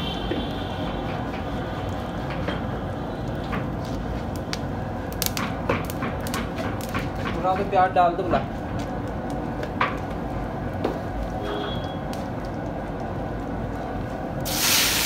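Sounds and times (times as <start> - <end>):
hot oil sizzling and bubbling: 0.0 - 15.0
oil crackling and popping: 0.1 - 15.0.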